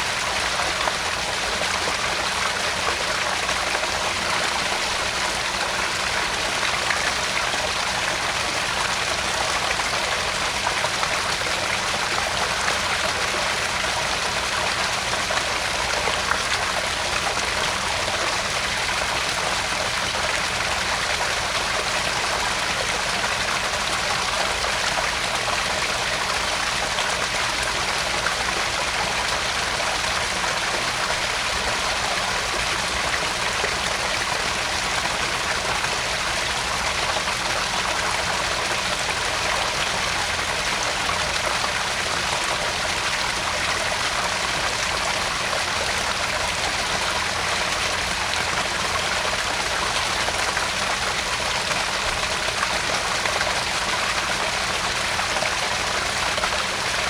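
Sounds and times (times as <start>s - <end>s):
pond waterfall splashing: 0.0s - 57.0s.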